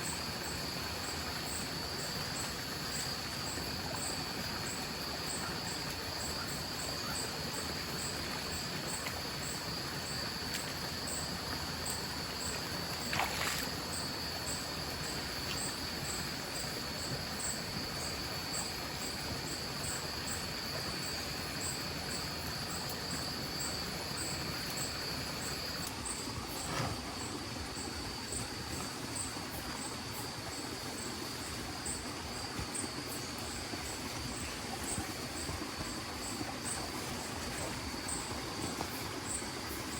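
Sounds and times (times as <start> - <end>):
insects trilling: 0.0 - 39.9
mountain stream rushing: 0.0 - 39.9.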